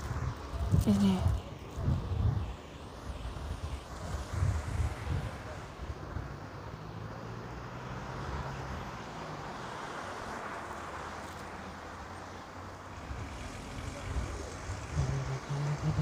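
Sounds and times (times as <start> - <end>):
car going by: 1.5 - 16.0.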